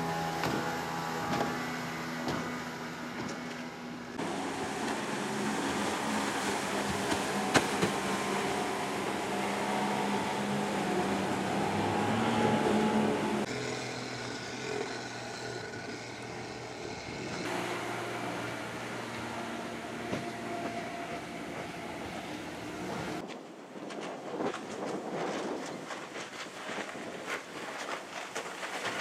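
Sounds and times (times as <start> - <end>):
outboard motors running: 0.0 - 23.3
rushing water: 0.0 - 29.0.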